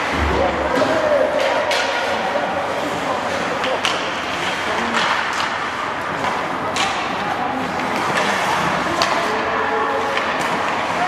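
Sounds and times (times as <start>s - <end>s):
hockey sticks and puck clacking: 0.0s - 11.0s
ice rink noise: 0.0s - 11.0s.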